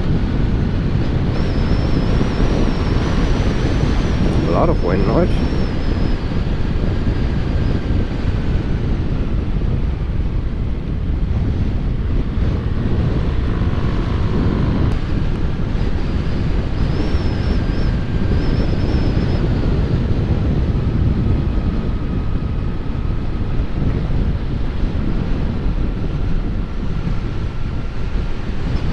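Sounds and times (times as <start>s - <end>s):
wind noise on microphone: 0.0s - 28.9s.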